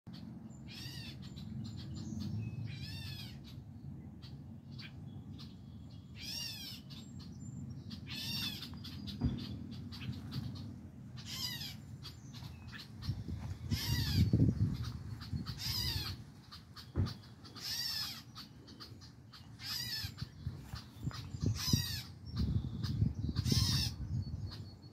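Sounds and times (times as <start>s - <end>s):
bird harsh calls: 0.1s - 24.9s
low rumble on the microphone: 0.4s - 24.9s.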